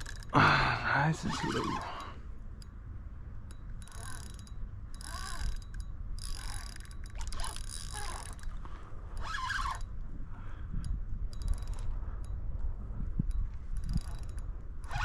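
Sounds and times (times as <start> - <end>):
fishing reel whirring and ratcheting: 0.0 - 2.7, 3.5 - 10.0, 10.7 - 12.4, 13.2 - 15.0.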